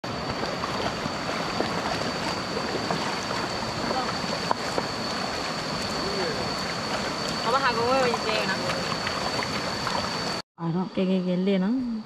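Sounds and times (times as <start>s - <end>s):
stream water rushing: 0.0s - 10.4s.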